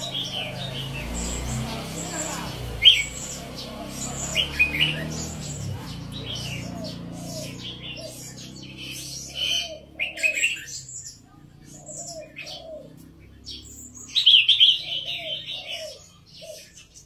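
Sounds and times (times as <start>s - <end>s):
bulbul singing warbled phrases: 0.0s - 17.0s
low repeated bird notes: 0.0s - 17.0s.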